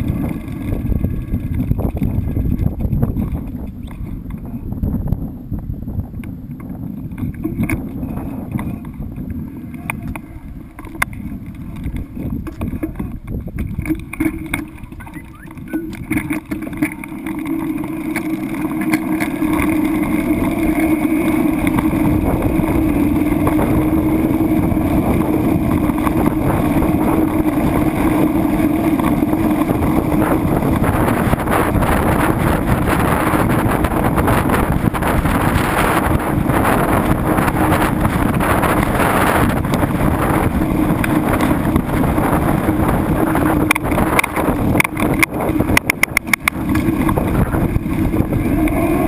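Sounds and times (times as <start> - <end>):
boat engine running: 0.0 - 49.0
wind buffeting microphone: 0.0 - 49.0.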